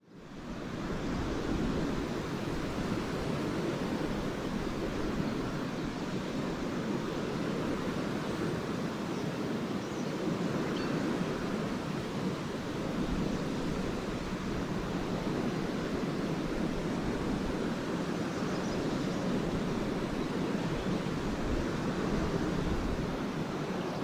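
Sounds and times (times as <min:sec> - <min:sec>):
waves washing onto beach: 0:00.0 - 0:24.0.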